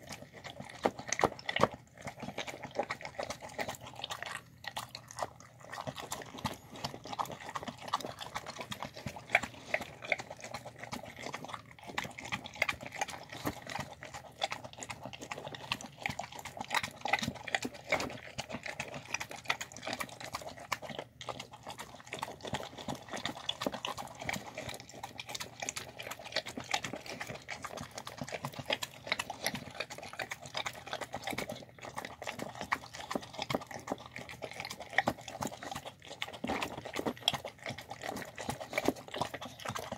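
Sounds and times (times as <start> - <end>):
dog chewing and mouth-smacking: 0.0 - 39.9.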